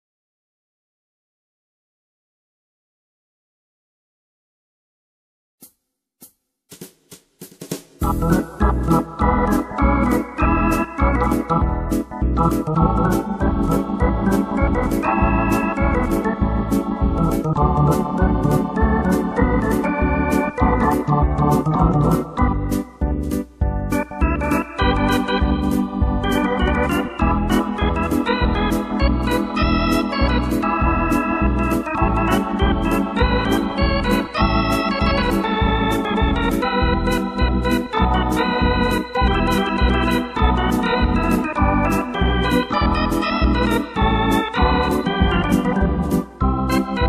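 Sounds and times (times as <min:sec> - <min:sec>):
accompaniment beat: 0:06.2 - 0:47.0
keyboard organ melody: 0:08.0 - 0:47.0.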